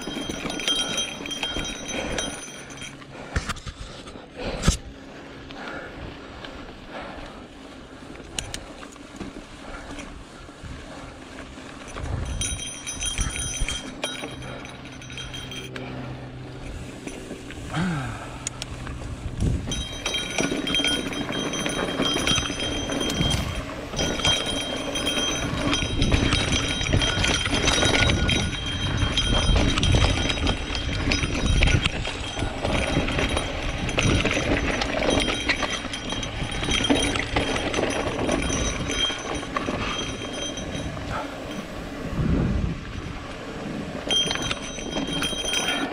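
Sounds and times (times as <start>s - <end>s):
bike rattling: 0.0s - 45.9s.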